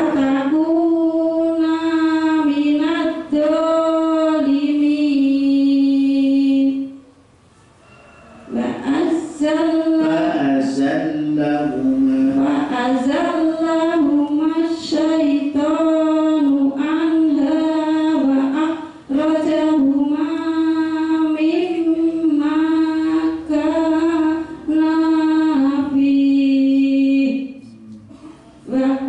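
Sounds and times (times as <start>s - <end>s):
woman chanting into a microphone: 0.0s - 7.1s, 8.5s - 27.8s, 28.6s - 29.0s.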